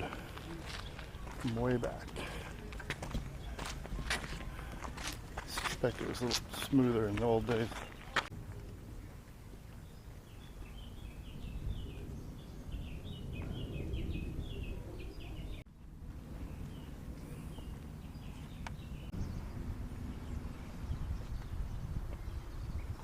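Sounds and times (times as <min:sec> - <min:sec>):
small birds twittering: 0:00.0 - 0:04.9, 0:06.1 - 0:08.3, 0:09.0 - 0:23.0
low outdoor rumble: 0:00.0 - 0:23.0.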